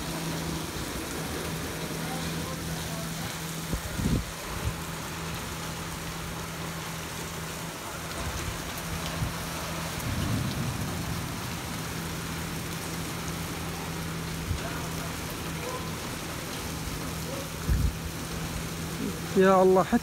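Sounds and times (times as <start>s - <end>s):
heavy rain on pavement and cars: 0.0s - 20.0s.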